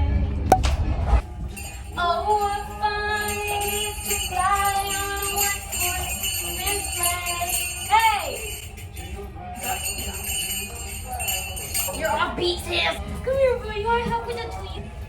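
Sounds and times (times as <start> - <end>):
christmas song playing: 1.2 - 15.0
jingling sleigh bells: 1.2 - 15.0.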